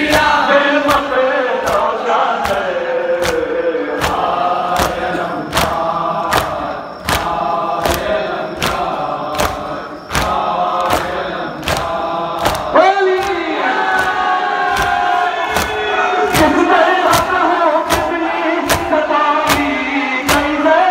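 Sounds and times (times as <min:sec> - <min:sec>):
crowd chanting in unison: 0:00.0 - 0:20.9
chest beating slaps: 0:01.6 - 0:20.6.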